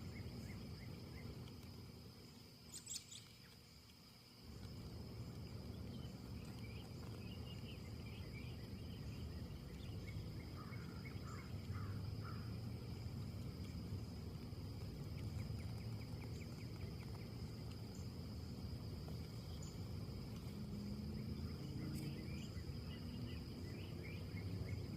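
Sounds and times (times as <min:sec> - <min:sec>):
high insect drone: 0:00.0 - 0:24.9.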